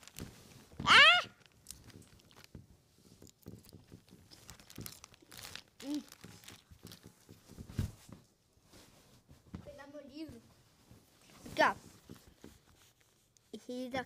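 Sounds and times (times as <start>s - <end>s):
rustling and crinkling handling: 0.0s - 14.0s.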